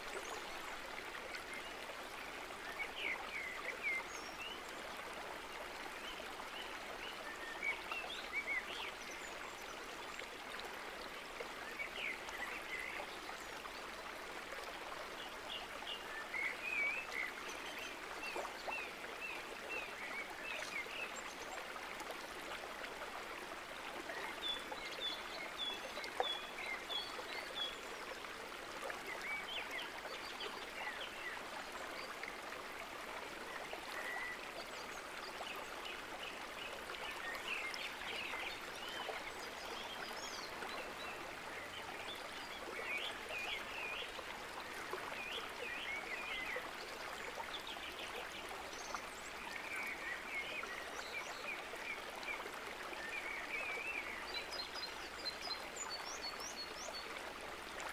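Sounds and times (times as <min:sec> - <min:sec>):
flowing water: 0:00.0 - 0:57.9.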